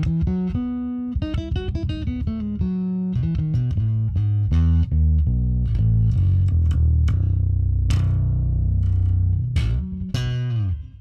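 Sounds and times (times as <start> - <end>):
electric bass playing: 0.0 - 11.0.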